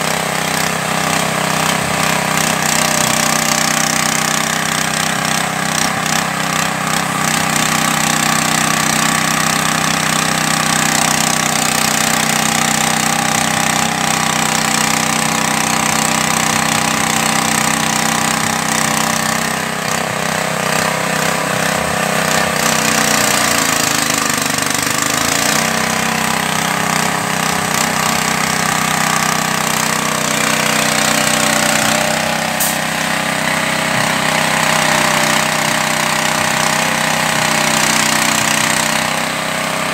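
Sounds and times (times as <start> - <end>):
small engine running under load: 0.0 - 39.9.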